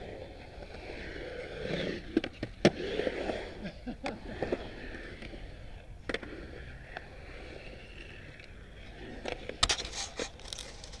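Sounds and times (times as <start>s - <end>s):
skateboard wheels rolling on concrete: 0.0s - 11.0s
skateboard clacks: 0.4s - 11.0s.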